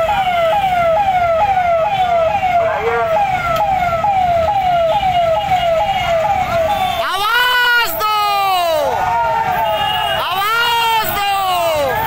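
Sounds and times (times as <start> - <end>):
vehicle siren wailing: 0.0 - 12.0.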